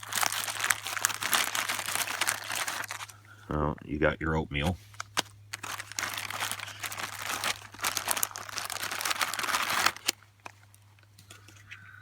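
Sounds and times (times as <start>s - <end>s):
packaging crinkling: 0.0s - 3.2s, 4.8s - 11.6s.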